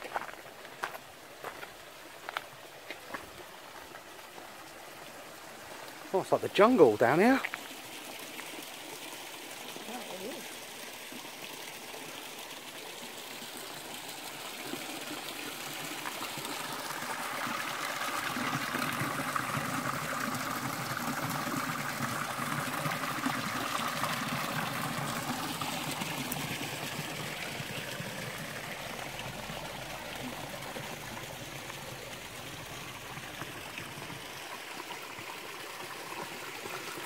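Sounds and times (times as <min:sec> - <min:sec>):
water trickling and splashing: 0:00.0 - 0:37.0.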